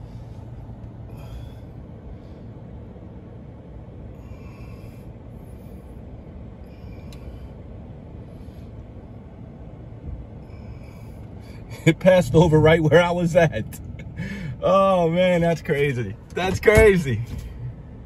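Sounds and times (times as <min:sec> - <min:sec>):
strong wind buffeting vehicle: 0:00.0 - 0:18.0.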